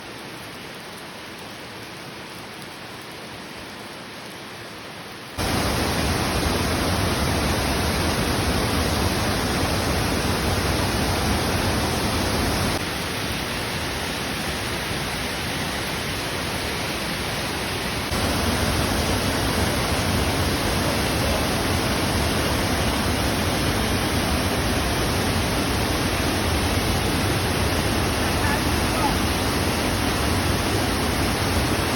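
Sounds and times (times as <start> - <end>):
heavy rushing water: 0.0 - 31.9.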